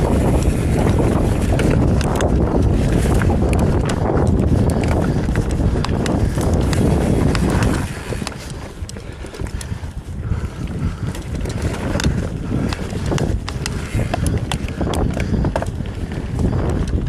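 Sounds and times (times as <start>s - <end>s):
bike clicks and rattles: 0.0s - 17.0s
tyre rumble over dirt: 0.0s - 17.0s
wind rush on microphone: 0.0s - 17.0s.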